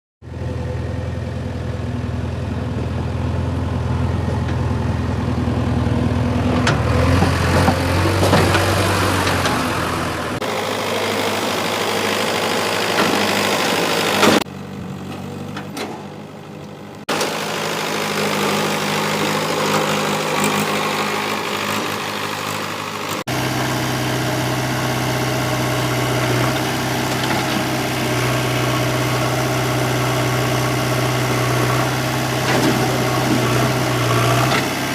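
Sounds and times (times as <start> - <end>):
diesel earthmoving machinery running: 0.2 - 34.9
tractor engine running: 0.2 - 34.9.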